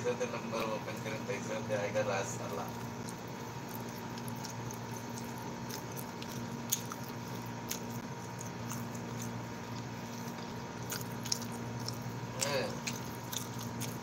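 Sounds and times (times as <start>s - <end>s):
steady low hum: 0.0s - 14.0s
chewing and wet mouth noises: 2.2s - 14.0s.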